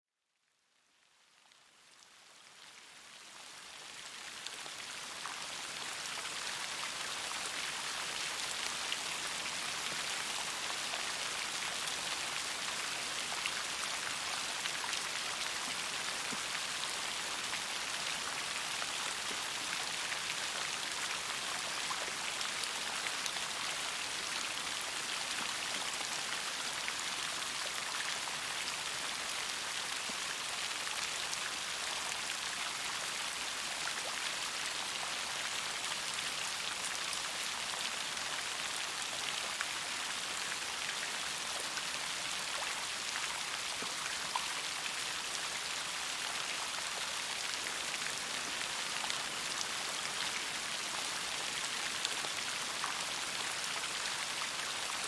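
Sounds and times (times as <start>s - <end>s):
steady rain with raindrops ticking: 0.3s - 55.0s.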